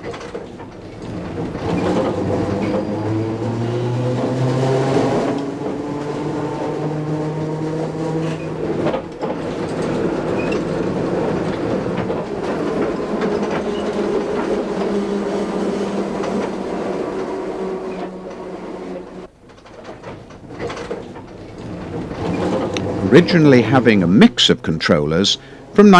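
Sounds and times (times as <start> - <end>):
rattling wheels on rails: 0.0 - 25.9
tram motor hum: 0.0 - 25.9.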